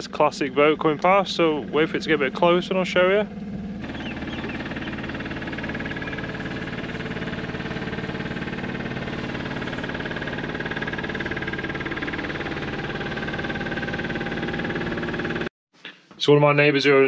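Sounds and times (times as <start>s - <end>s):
motor boat engine passing: 0.0s - 15.5s.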